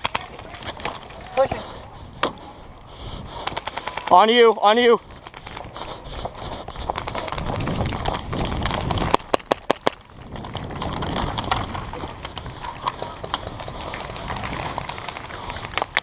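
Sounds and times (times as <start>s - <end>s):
footsteps: 0.0s - 16.0s
gear rustling: 0.0s - 16.0s.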